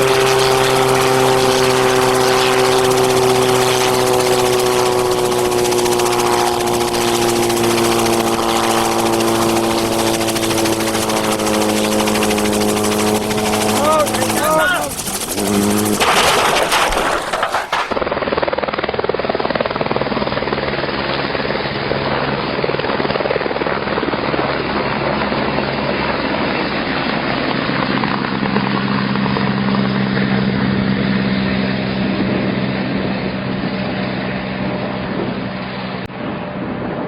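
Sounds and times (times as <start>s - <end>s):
helicopter rotor and engine: 0.0s - 37.0s.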